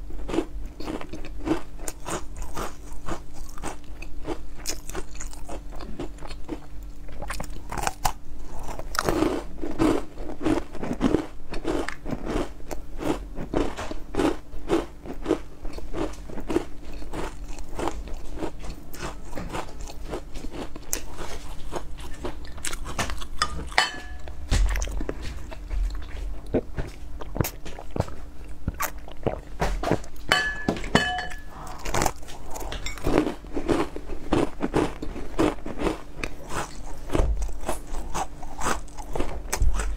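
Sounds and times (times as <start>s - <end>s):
crunching crisp snack: 0.2s - 29.5s, 31.6s - 39.9s.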